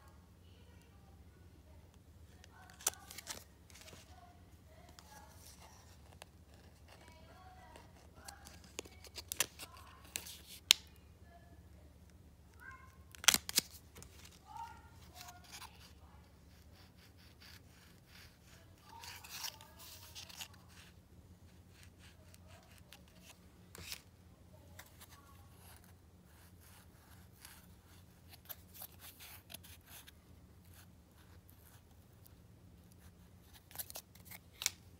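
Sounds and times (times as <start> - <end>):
plastic and card rustling: 2.3 - 11.0, 12.5 - 32.3, 32.9 - 34.9.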